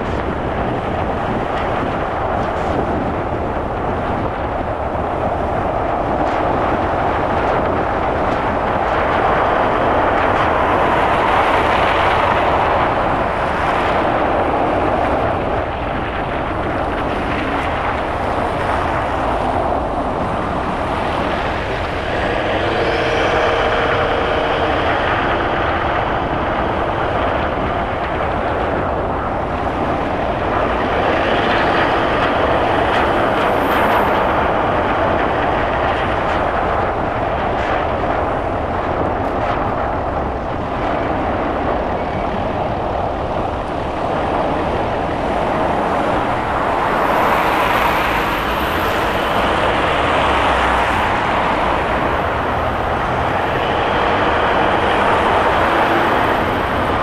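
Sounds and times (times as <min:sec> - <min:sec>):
passing traffic: 0:00.0 - 0:57.0
tyre and road noise: 0:00.0 - 0:57.0.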